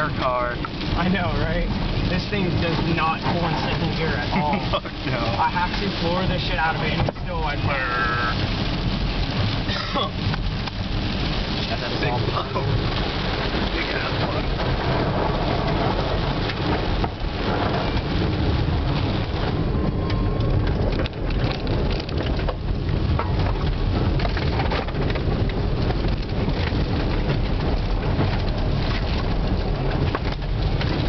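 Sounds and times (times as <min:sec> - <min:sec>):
engine and tyre rumble: 0:00.0 - 0:31.0
rain ticking on car: 0:00.0 - 0:31.0.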